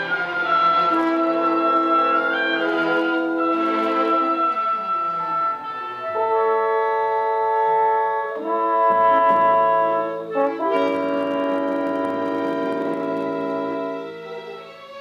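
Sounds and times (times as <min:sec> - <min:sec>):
orchestra playing held chords: 0:00.0 - 0:15.0.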